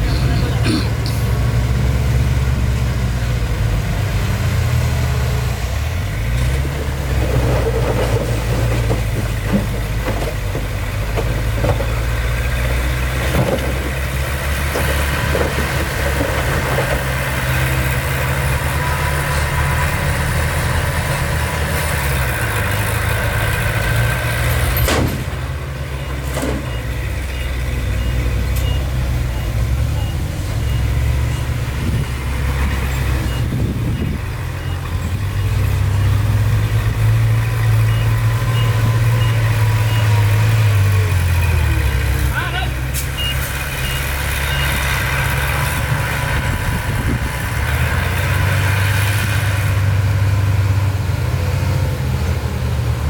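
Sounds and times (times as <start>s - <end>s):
construction machine diesel engine: 0.0s - 53.0s.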